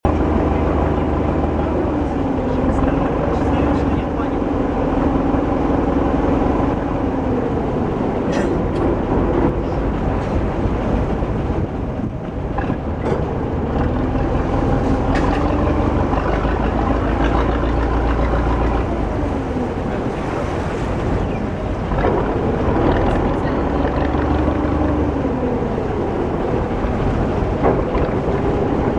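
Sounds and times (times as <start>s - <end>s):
ferry engine rumbling: 0.0s - 28.9s.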